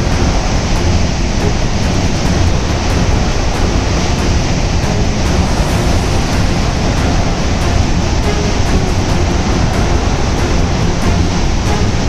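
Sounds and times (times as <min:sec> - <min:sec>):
deep rumble: 0:00.0 - 0:12.0
water rushing from spillway: 0:00.0 - 0:12.0.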